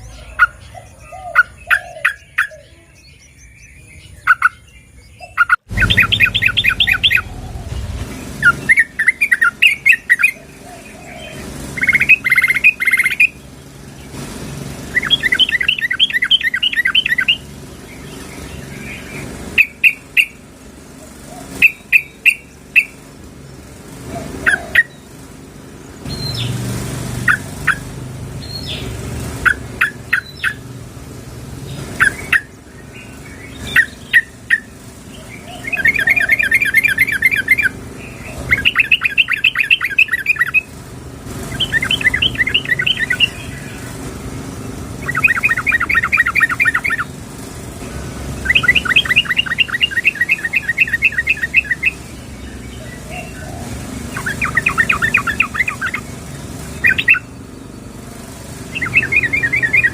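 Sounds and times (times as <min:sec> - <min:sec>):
bird chirps: 0:00.0 - 0:25.2, 0:26.0 - 0:30.7, 0:31.6 - 0:40.8, 0:41.4 - 0:59.9.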